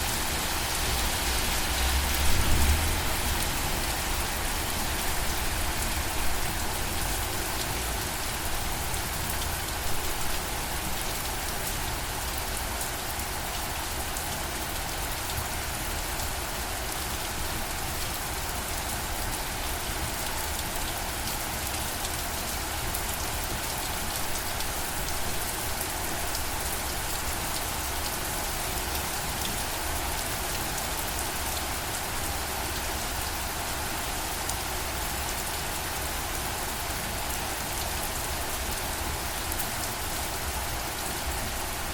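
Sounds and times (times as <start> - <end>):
steady rainfall: 0.0 - 41.9.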